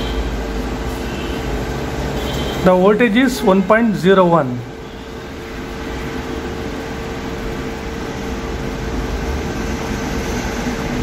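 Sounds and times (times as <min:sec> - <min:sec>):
mid-pitched mechanical hum: 0:00.0 - 0:11.0.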